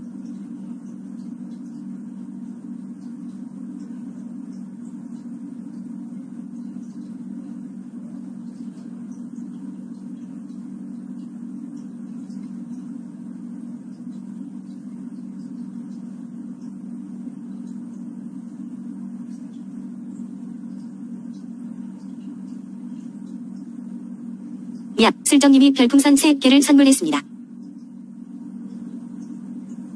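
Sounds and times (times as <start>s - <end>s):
electric fan humming: 0.0s - 29.9s.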